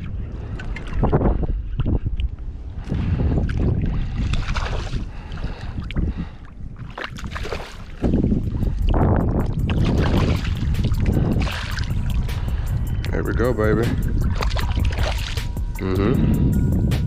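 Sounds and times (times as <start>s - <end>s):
water sloshing and splashing: 0.0s - 15.8s
wind buffeting microphone: 0.0s - 17.0s.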